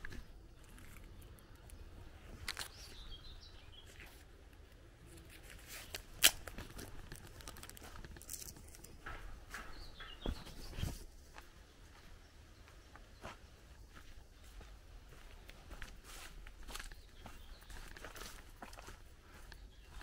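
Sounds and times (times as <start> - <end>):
footsteps in a garden: 0.0 - 20.0
small birds chirping: 0.0 - 20.0.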